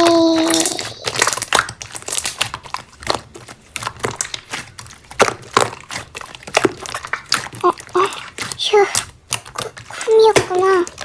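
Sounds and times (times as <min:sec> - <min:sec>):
slime crackling and popping: 0:00.0 - 0:11.0.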